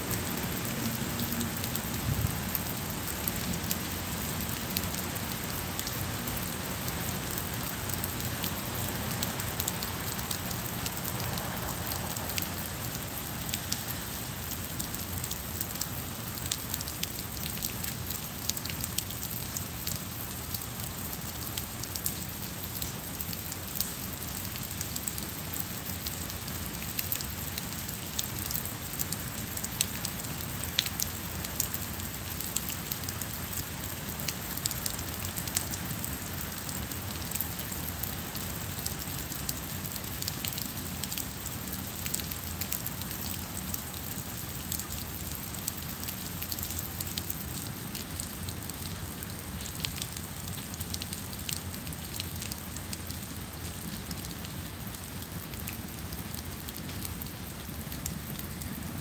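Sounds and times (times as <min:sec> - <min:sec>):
raindrops ticking close by: 0:00.0 - 0:59.0
steady rain hiss: 0:00.0 - 0:59.0.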